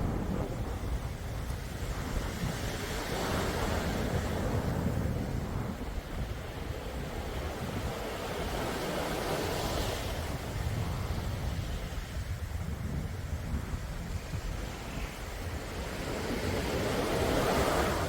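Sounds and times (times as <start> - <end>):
calm sea waves: 0.0 - 18.0
wind rumbling on microphone: 0.0 - 18.0.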